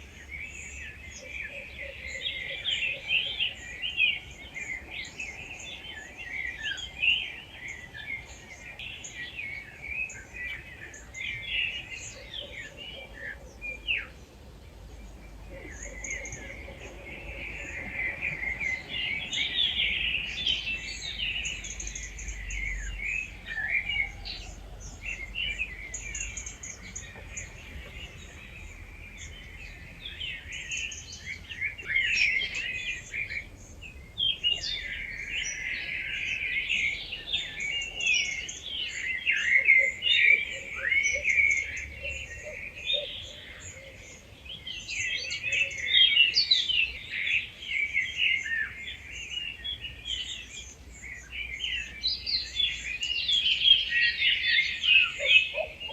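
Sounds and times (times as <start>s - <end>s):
birds singing: 0.0s - 55.9s.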